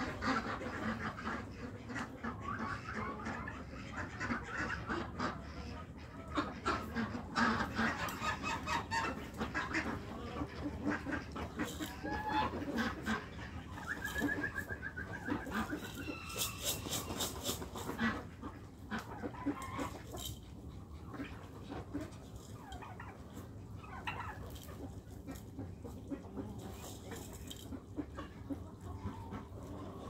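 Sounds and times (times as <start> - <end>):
chickens and ducks clucking: 0.0 - 30.0.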